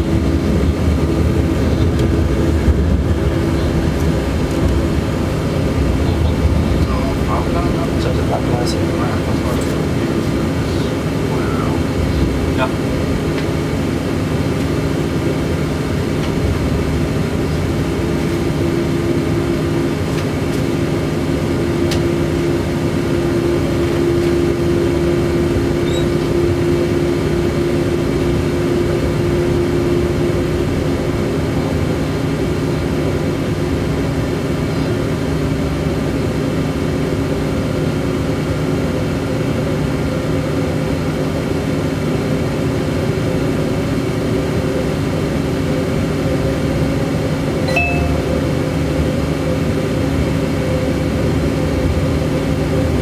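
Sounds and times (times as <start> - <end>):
electric train rumble: 0.0 - 53.0
train hum of steady tones: 0.0 - 53.0.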